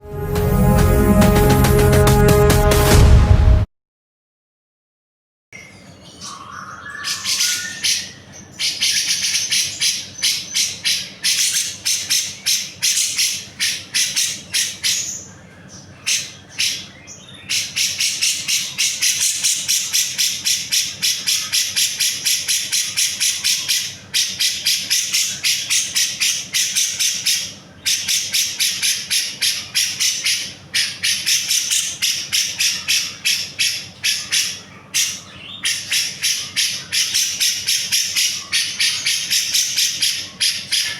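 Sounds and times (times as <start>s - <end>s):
bird singing harsh rapid notes: 5.6s - 40.9s.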